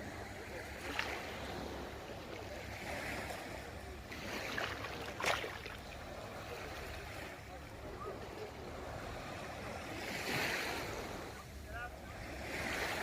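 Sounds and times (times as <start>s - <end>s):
sea water splashing: 0.0s - 13.0s.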